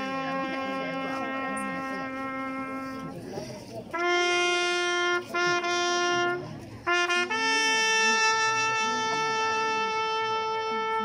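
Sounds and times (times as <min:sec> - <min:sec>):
solo trumpet playing long notes: 0:00.0 - 0:03.2, 0:03.9 - 0:11.0.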